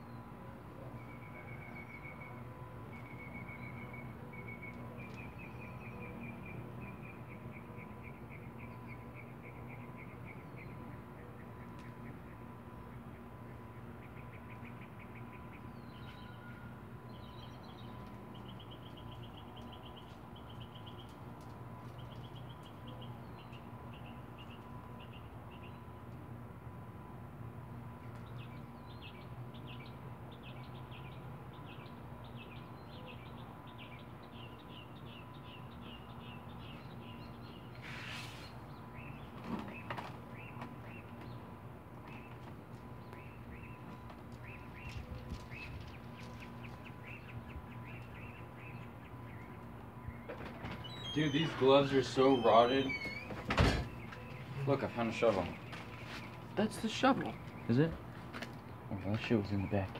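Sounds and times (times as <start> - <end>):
small birds chirping: 0.0 - 26.2, 28.1 - 59.9
steady low hum: 0.0 - 59.9.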